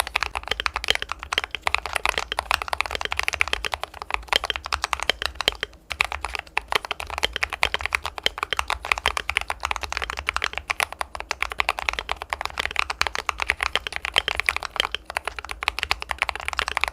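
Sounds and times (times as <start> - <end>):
mechanical keyboard typing: 0.0 - 16.9.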